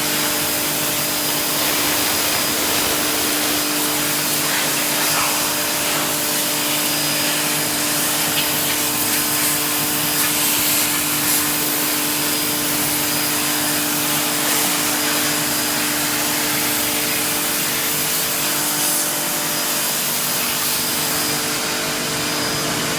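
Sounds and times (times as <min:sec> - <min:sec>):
water jet hissing: 0:00.0 - 0:22.6
pressure washer motor drone: 0:00.0 - 0:22.9.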